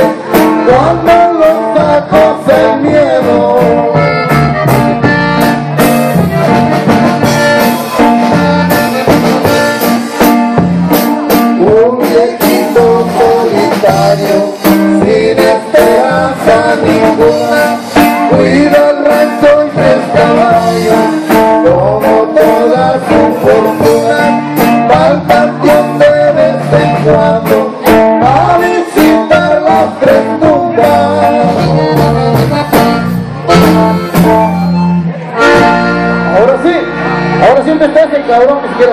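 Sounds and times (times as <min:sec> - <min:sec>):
steady beat: 0:00.0 - 0:37.4
guitar: 0:00.0 - 0:38.9.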